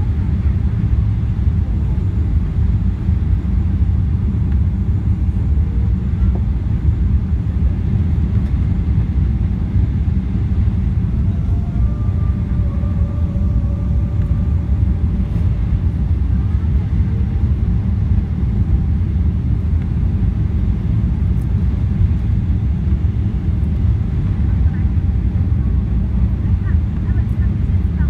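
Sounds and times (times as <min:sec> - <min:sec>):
airliner engine rumble in cabin: 0:00.0 - 0:28.0.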